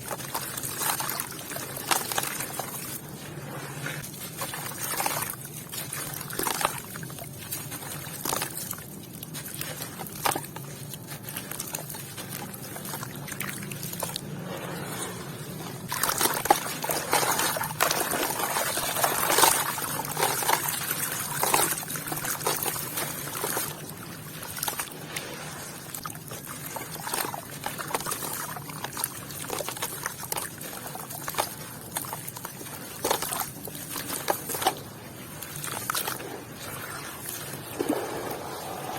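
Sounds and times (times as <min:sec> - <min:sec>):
pouring and splashing: 0:00.0 - 0:38.9.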